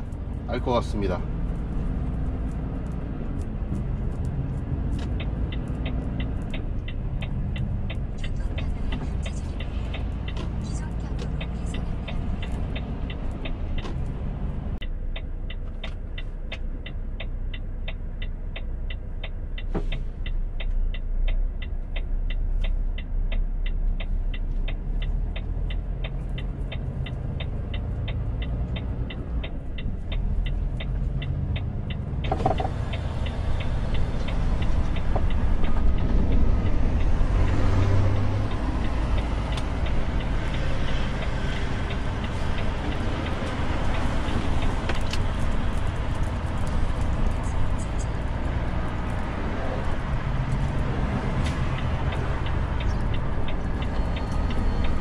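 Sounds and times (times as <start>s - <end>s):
truck engine and road rumble: 0.0s - 55.0s
turn signal ticking: 0.0s - 55.0s.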